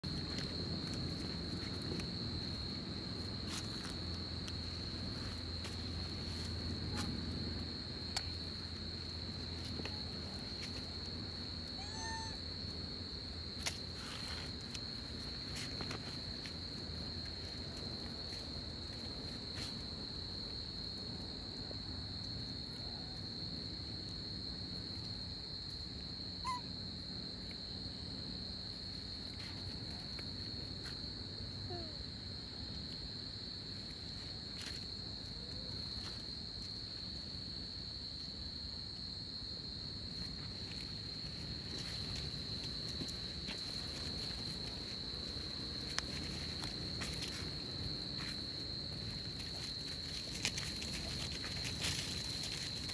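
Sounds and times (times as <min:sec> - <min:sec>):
night insects droning: 0:00.0 - 0:52.9.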